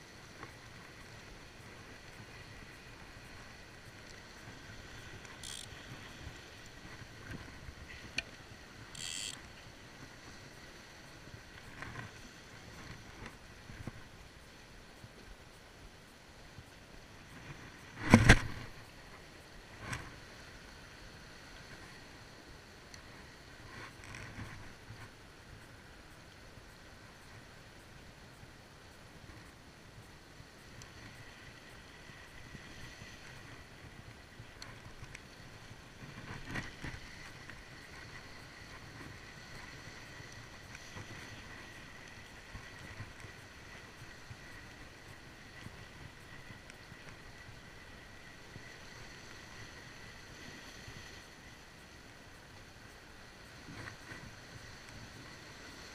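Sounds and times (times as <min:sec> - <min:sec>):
wind: 0:00.0 - 0:55.9.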